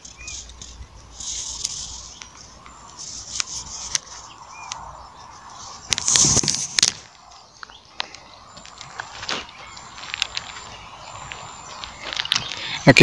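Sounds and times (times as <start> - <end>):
bird chirp: 0.0 - 13.0.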